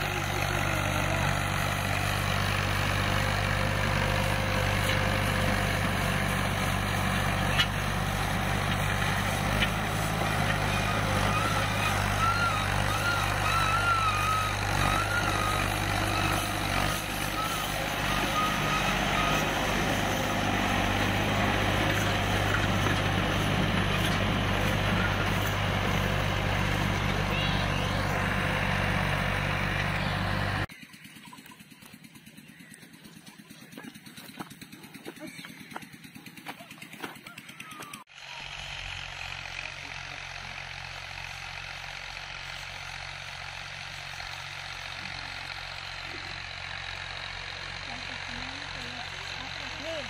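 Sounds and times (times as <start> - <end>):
diesel tractor engine under load: 0.0 - 50.0.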